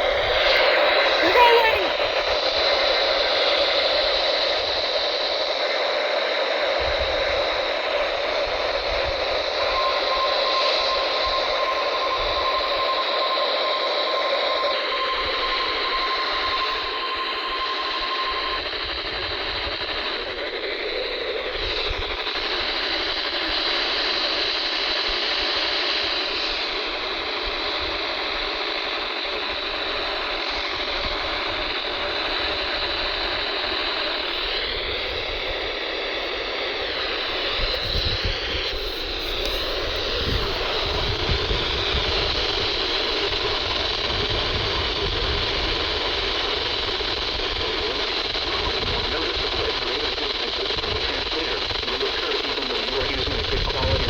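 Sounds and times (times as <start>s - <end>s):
radio static hiss: 0.0s - 13.0s, 19.3s - 54.0s
wavering interference whistles: 0.0s - 54.0s.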